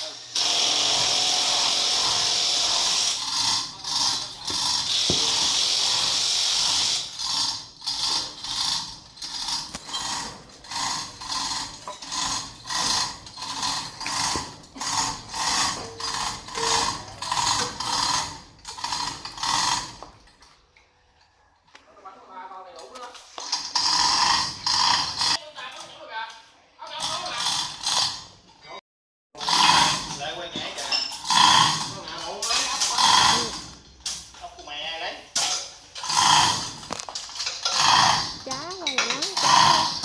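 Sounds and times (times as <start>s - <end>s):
ratcheting hoist strokes: 0.0s - 20.6s, 23.2s - 25.4s, 26.9s - 28.5s, 29.4s - 40.0s.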